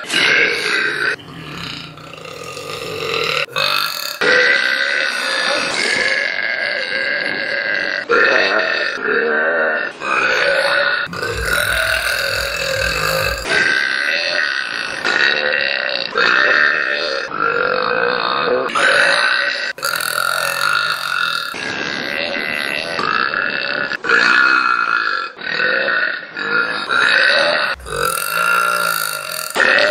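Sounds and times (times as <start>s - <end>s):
woman burping loudly: 0.0s - 9.0s, 10.5s - 24.0s, 25.2s - 29.9s.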